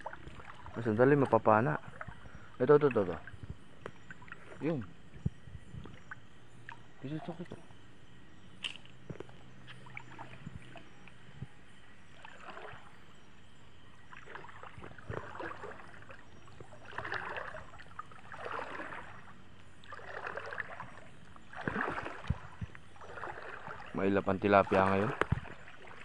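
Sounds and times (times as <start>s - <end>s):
wading through river water: 0.0s - 26.0s.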